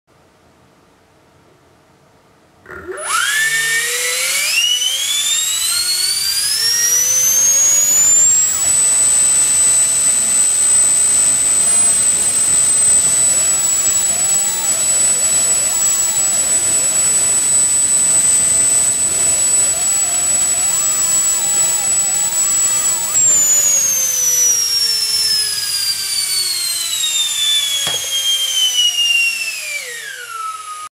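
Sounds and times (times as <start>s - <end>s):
electric fan whine: 0.2s - 30.9s.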